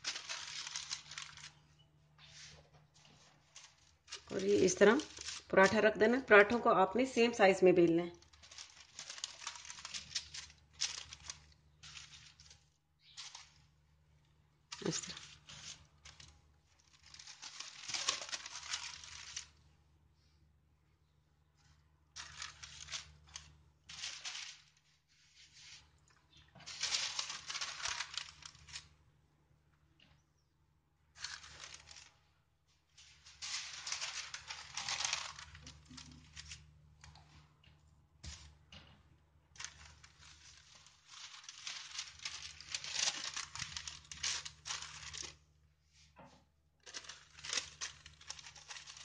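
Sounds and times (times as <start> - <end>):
parchment paper rustling: 0.0 - 20.4, 21.5 - 29.2, 31.1 - 49.0.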